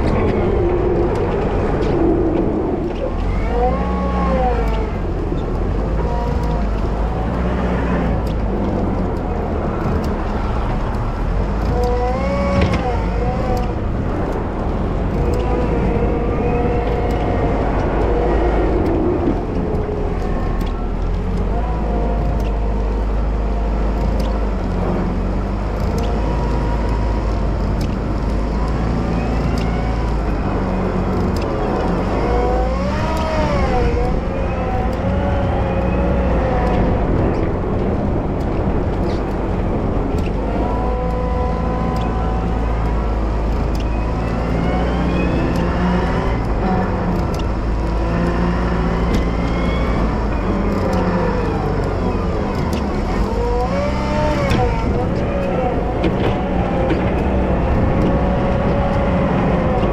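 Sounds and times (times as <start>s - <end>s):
machine whine: 0.0s - 59.9s
wheel loader engine running: 0.0s - 59.9s.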